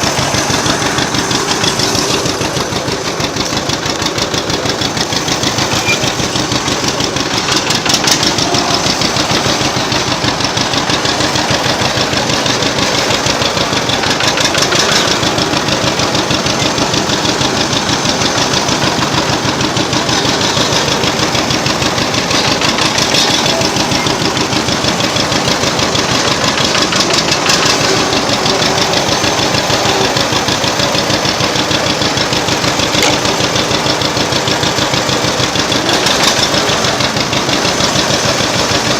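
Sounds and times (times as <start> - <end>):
tractor engine chugging: 0.0 - 38.9.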